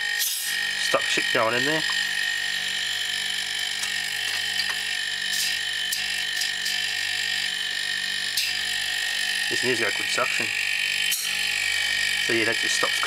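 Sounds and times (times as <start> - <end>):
air compressors humming and whining: 0.0 - 13.0.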